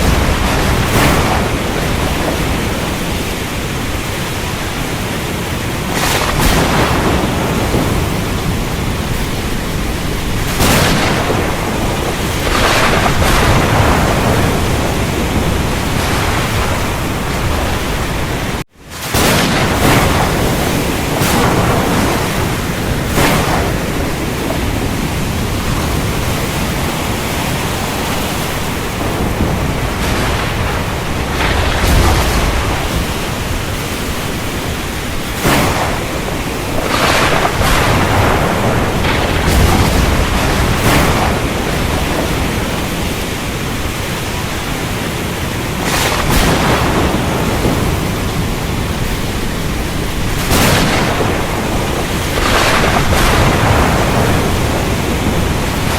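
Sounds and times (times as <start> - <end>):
sharp thunder cracks: 0.0 - 44.7, 45.4 - 55.9
heavy rain: 0.0 - 55.9
low rolling thunder: 0.0 - 55.9.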